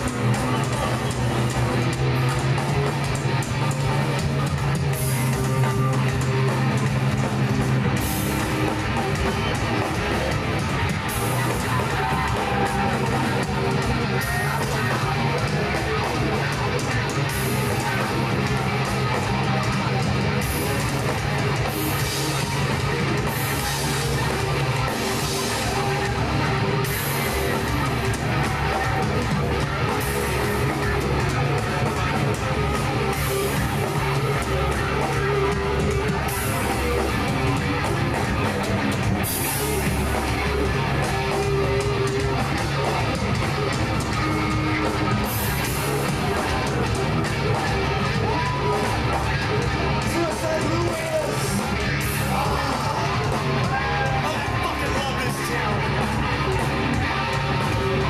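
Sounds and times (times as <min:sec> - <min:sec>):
bass guitar: 0:00.0 - 0:58.0
distorted electric guitars: 0:00.0 - 0:58.0
drum kit: 0:00.0 - 0:58.0.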